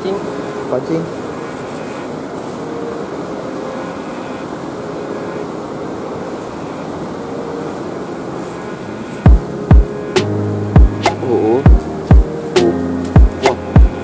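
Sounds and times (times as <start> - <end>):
steady low drone: 0.0 - 14.0.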